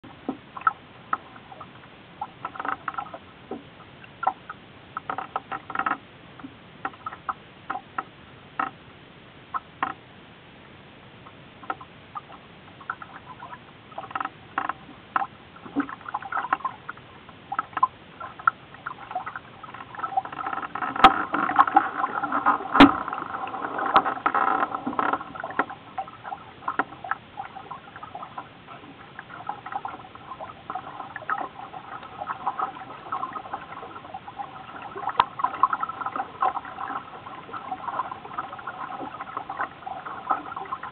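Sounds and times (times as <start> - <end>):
water lapping against boat hull: 0.0 - 10.1, 11.2 - 40.9.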